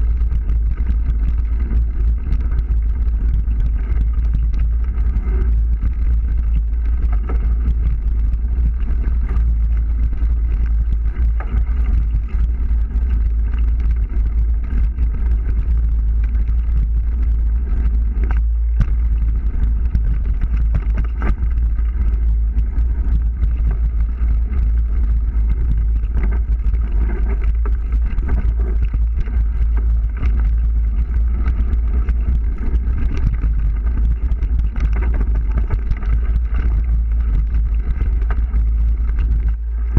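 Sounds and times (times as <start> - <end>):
bike knocks and rattles: 0.0 - 39.9
wind buffeting microphone: 0.0 - 39.9.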